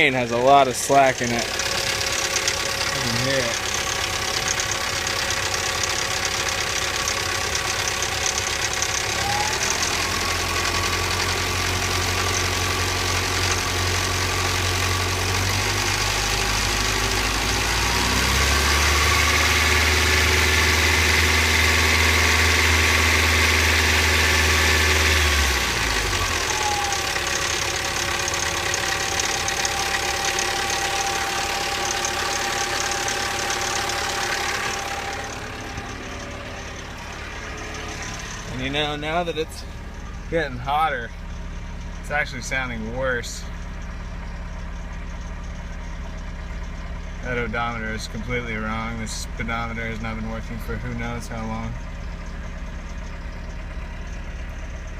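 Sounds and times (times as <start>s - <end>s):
car engine idling and revving: 0.0s - 54.9s
engine rattle: 0.0s - 54.9s.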